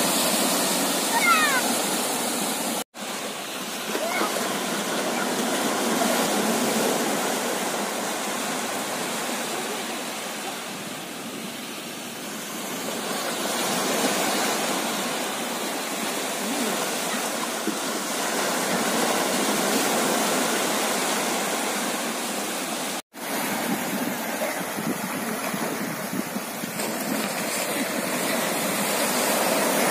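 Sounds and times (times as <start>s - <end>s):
small sea waves breaking: 0.0s - 29.9s.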